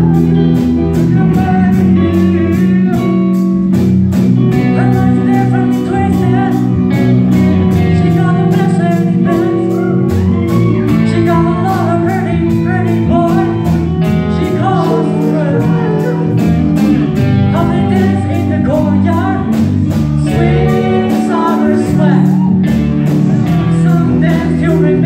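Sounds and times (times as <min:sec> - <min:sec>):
drum kit beat: 0:00.0 - 0:25.0
electric guitars: 0:00.0 - 0:25.0
person singing: 0:00.0 - 0:25.0.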